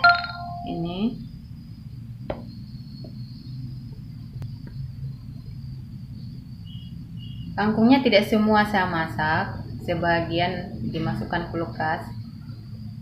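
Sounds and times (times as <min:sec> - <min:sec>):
faint high whine: 0:00.0 - 0:13.0
low steady rumble: 0:00.0 - 0:13.0.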